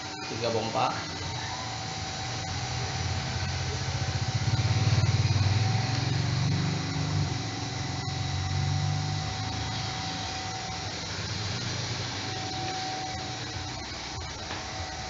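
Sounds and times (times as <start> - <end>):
water pumps humming: 0.0 - 15.0
engine-like throbbing: 1.0 - 15.0.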